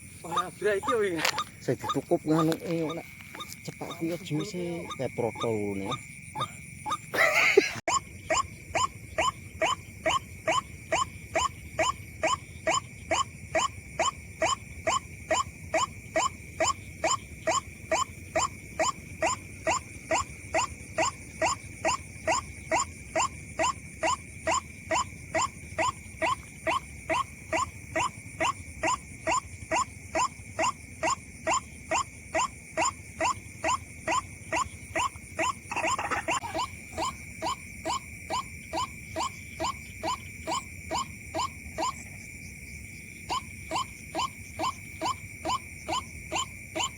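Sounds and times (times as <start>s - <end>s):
bird croaking calls: 0.0s - 46.9s.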